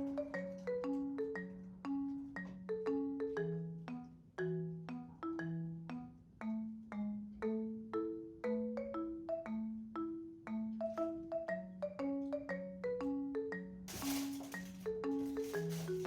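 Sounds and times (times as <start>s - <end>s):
bouncy marimba tune: 0.0s - 16.0s.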